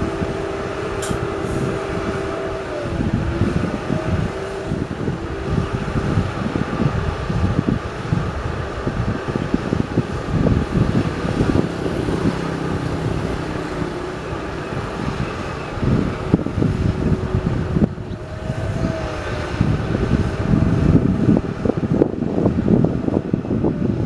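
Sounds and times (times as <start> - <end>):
heavy vehicle engine running: 0.0 - 24.0
wind buffeting microphone: 0.0 - 24.0.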